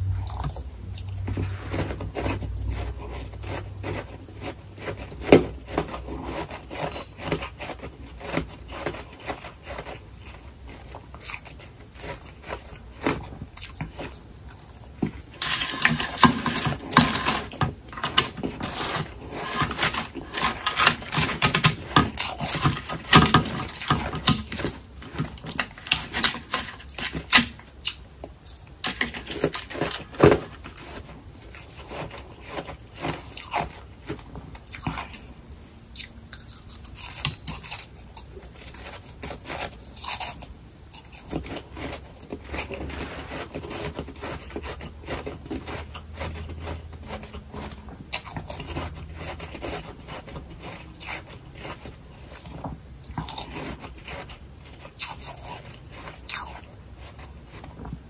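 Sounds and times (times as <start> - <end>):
frost crunching and crackling: 0.0 - 58.0.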